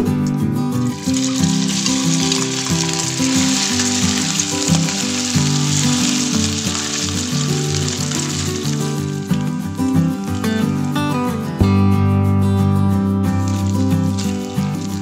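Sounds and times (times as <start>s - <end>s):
soft background music: 0.0s - 15.0s
meat sizzling in hot oil: 0.8s - 11.5s, 13.4s - 15.0s.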